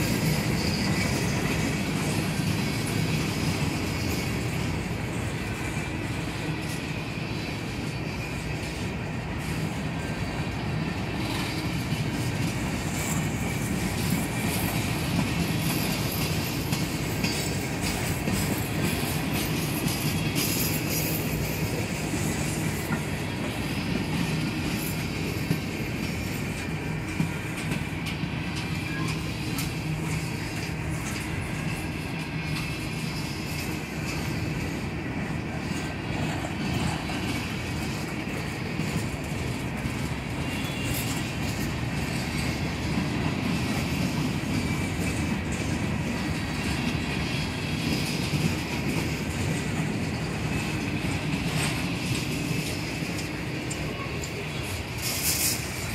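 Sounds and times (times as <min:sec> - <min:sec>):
steel wheels rumbling on rails: 0:00.0 - 0:55.9
wheels clicking over rail joints: 0:00.0 - 0:55.9.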